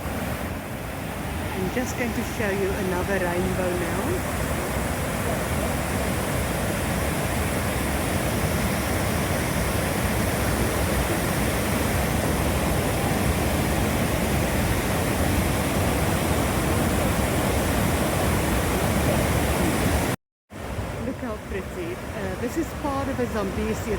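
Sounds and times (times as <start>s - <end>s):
roar of heavy waterfall: 0.0s - 23.9s.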